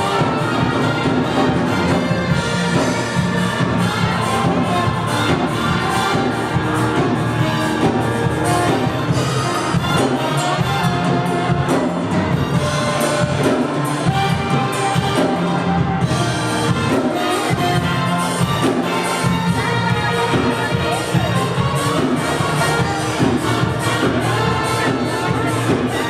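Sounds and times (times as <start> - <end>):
worship band playing: 0.0 - 26.0.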